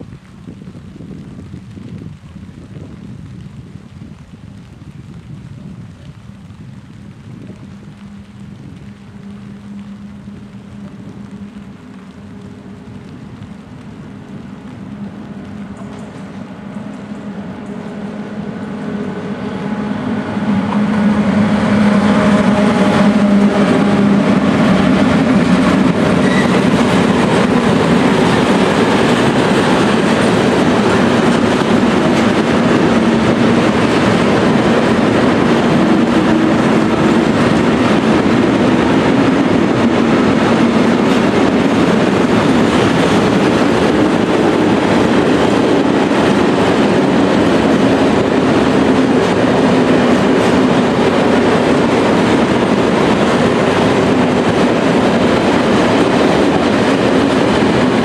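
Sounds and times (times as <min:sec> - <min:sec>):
electric locomotive hum: 0:00.0 - 0:58.0
freight wagons rolling over rails: 0:04.1 - 0:58.0.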